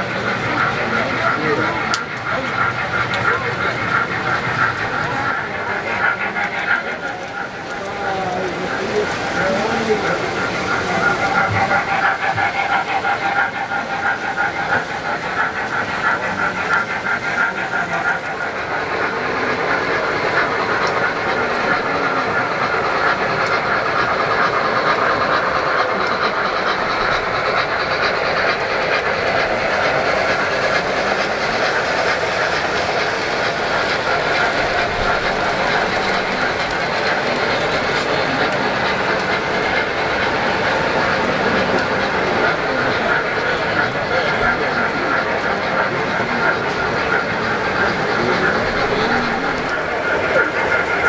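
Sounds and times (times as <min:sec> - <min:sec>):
model train motor whirring: 0:00.0 - 0:51.0
wheels clicking over track joints: 0:00.0 - 0:51.0.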